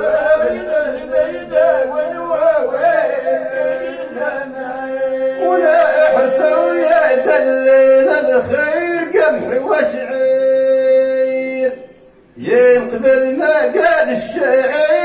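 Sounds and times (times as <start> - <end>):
man singing ornamented melody: 0.0 - 15.0
men holding a chanted note: 0.0 - 15.0.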